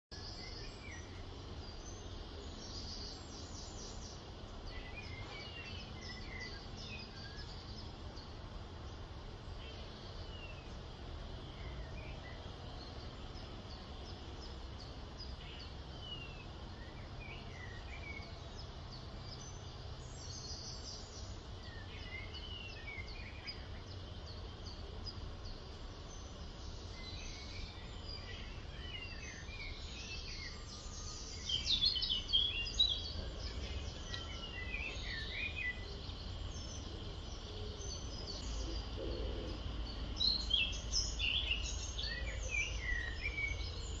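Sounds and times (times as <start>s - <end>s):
birds chirping and calling: 0.2s - 44.0s.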